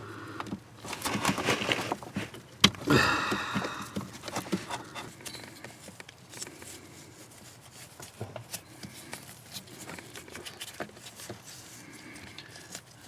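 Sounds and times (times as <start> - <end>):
hands handling tools and parts: 0.8 - 13.0.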